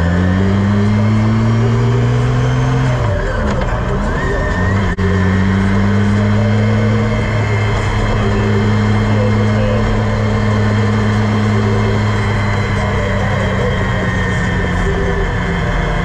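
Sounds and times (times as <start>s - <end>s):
small engine running at low revs: 0.0s - 16.0s.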